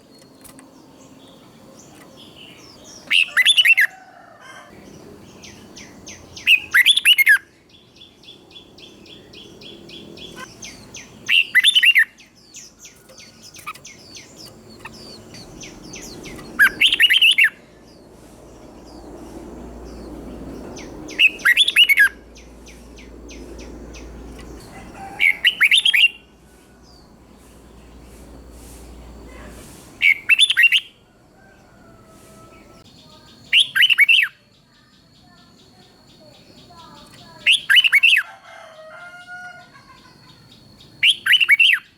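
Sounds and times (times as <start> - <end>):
bird chirps and trills: 0.0 - 3.9, 4.8 - 31.0, 31.8 - 38.3, 39.6 - 41.9
bird warbling song: 0.0 - 4.0, 4.8 - 38.2, 39.8 - 41.9.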